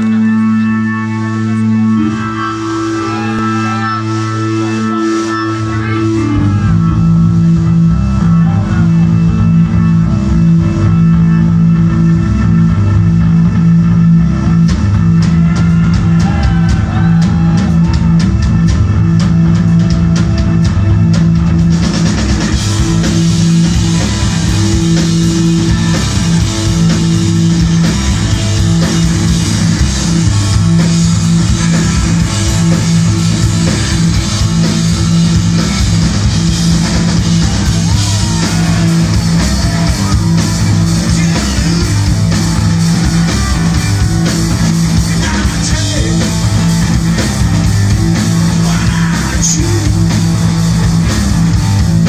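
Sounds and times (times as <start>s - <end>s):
live rock band playing: 0.0s - 52.0s
low bass riff: 0.0s - 52.0s.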